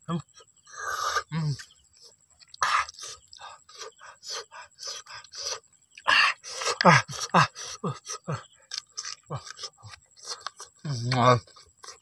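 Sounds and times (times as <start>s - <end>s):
open-mouthed chewing and lip-smacking: 0.2s - 12.0s.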